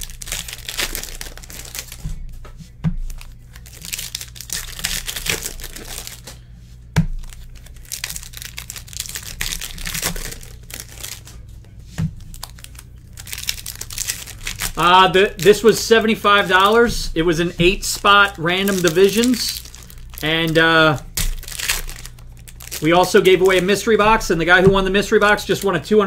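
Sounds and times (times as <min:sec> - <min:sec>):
foil packs crinkling and tearing: 0:00.0 - 0:02.0, 0:03.1 - 0:06.3, 0:07.2 - 0:11.4, 0:12.2 - 0:26.0.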